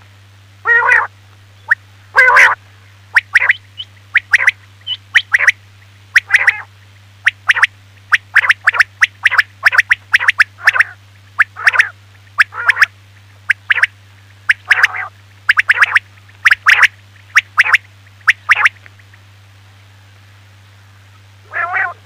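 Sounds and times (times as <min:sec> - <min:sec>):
low electrical hum: 0:00.0 - 0:22.0
quail calling: 0:00.6 - 0:06.7, 0:07.3 - 0:12.9, 0:13.5 - 0:19.2, 0:21.5 - 0:22.0.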